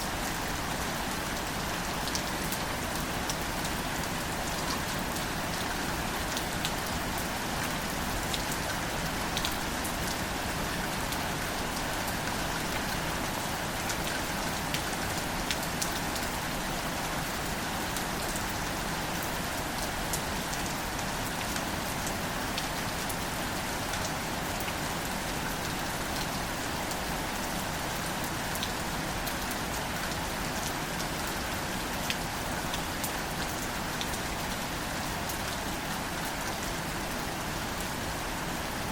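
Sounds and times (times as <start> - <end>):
gentle rain on leaves: 0.0 - 38.9.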